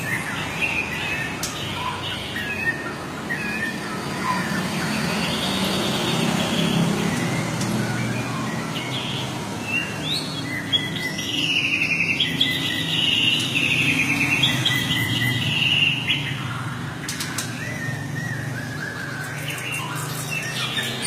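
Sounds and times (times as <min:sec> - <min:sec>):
songbird trilling: 0:00.0 - 0:21.0.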